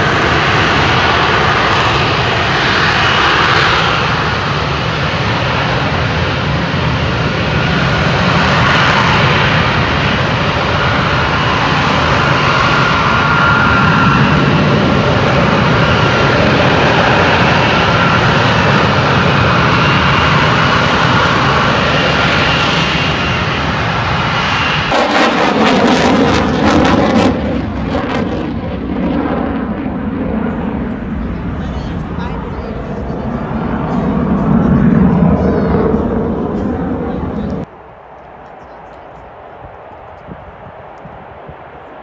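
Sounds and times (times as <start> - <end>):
crackling jet noise: 0.0 - 42.0
jet engine roar with whine: 0.0 - 42.0.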